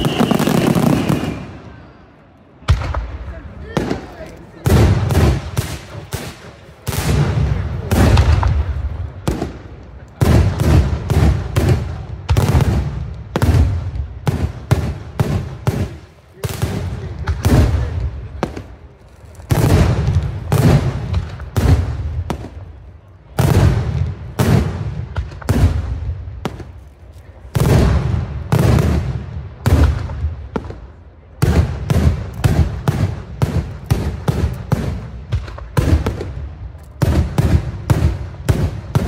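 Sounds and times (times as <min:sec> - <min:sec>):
fireworks bangs: 0:00.0 - 0:02.0, 0:02.6 - 0:39.0.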